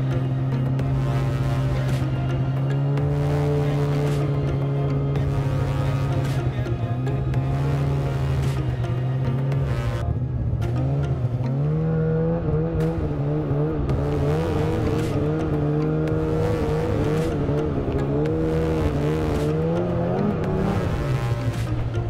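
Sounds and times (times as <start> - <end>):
snowmobile engine running hard: 0.0 - 22.0.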